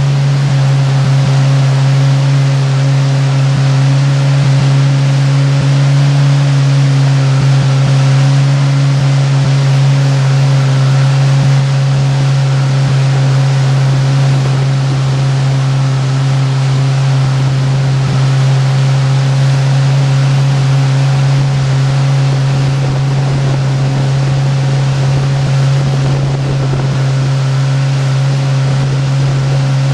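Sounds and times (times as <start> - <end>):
motorboat engine droning: 0.0 - 29.9
water rushing: 0.0 - 29.9
wind: 0.0 - 29.9.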